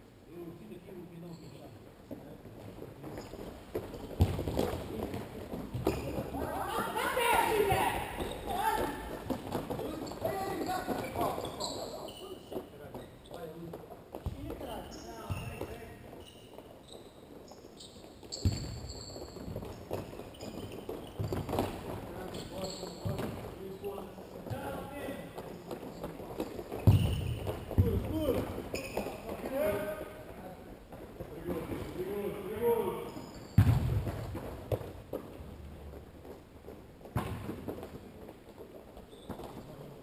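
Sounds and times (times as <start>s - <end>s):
shoes squeaking on court floor: 1.1s - 40.0s.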